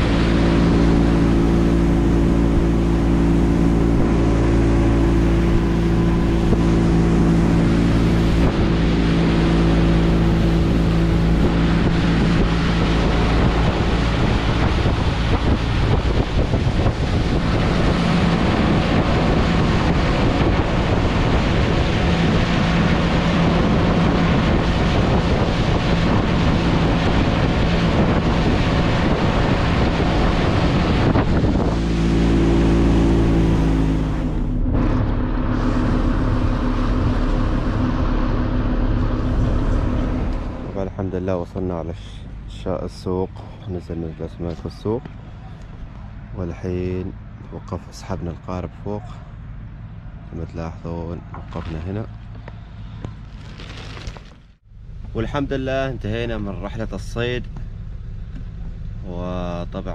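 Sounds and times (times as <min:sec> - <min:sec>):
wind on microphone: 0:00.0 - 0:48.0
water rushing past hull: 0:00.0 - 0:50.6
outboard motor running: 0:00.0 - 0:59.9.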